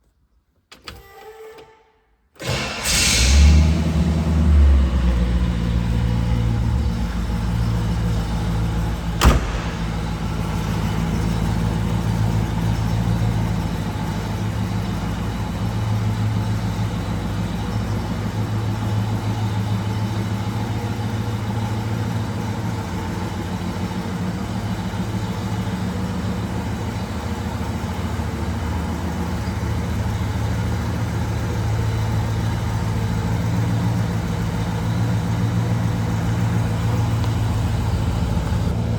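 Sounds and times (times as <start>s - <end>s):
car engine idling: 2.4s - 38.9s.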